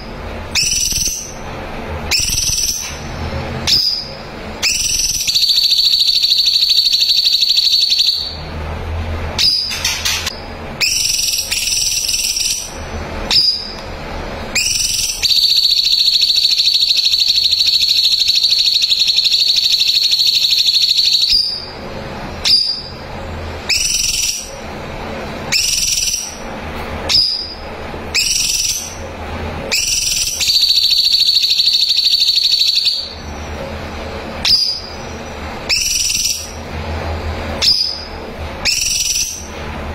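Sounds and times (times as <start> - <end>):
bird rapid-fire trill: 0.0 - 3.0, 3.6 - 8.5, 9.3 - 13.8, 14.5 - 21.8, 22.4 - 24.8, 25.4 - 26.5, 27.1 - 33.6, 34.4 - 36.7, 37.6 - 39.6.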